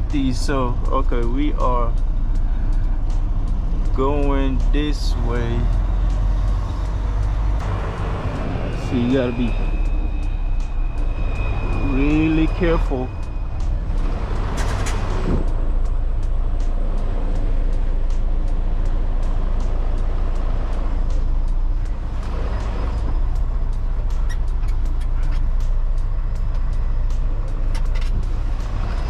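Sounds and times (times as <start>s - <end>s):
diesel truck engine rumble: 0.0s - 29.0s.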